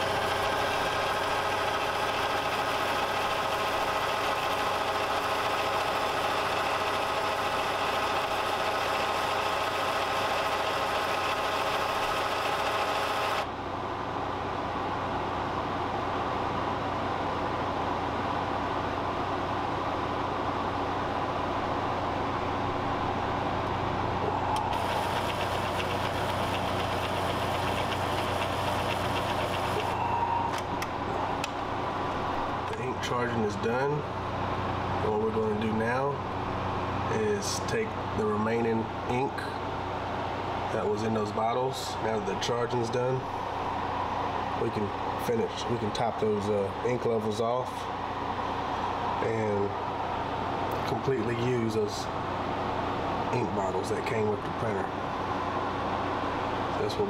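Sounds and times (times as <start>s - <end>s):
printer mechanical hum: 0.0s - 14.9s, 15.5s - 57.0s.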